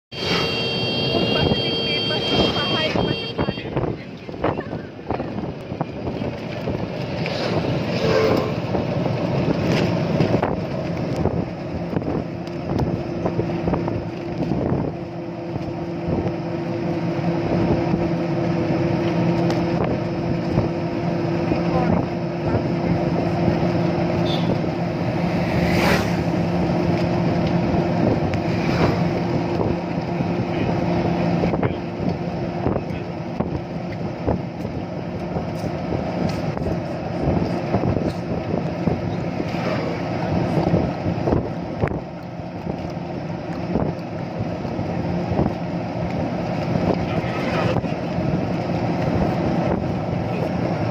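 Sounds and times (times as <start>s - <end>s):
moving vehicle rumble: 0.1s - 50.9s
wind noise: 1.1s - 21.2s, 25.5s - 50.9s.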